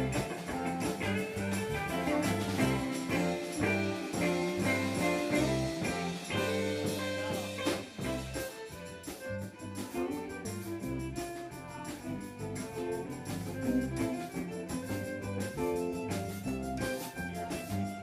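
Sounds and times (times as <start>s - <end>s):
bass line: 0.0s - 18.0s
drum kit beat: 0.0s - 18.0s
held instrument notes: 0.0s - 18.0s.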